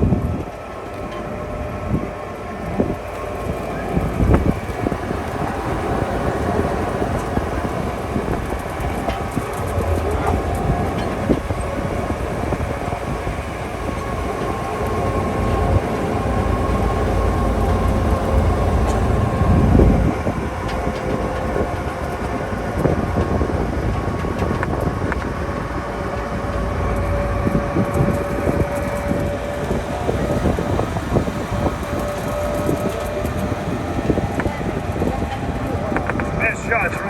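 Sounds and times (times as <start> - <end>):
train rumbling and rattling: 0.0 - 37.0.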